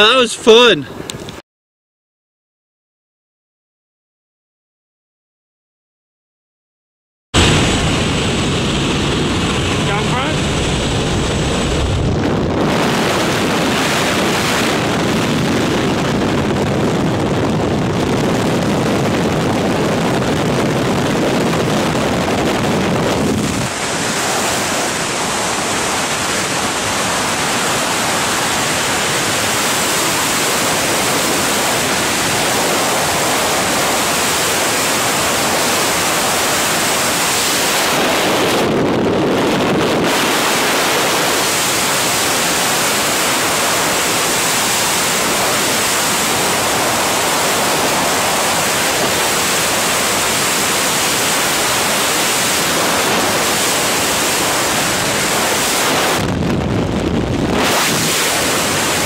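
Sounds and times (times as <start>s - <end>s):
wind blasting over microphone: 7.4s - 59.0s.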